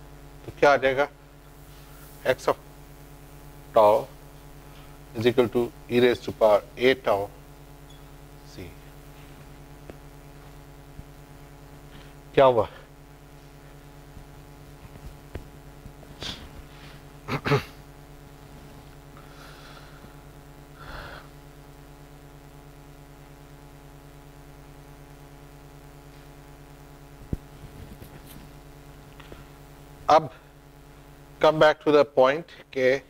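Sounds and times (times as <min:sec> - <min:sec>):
lecture room hum: 0:00.0 - 0:33.0.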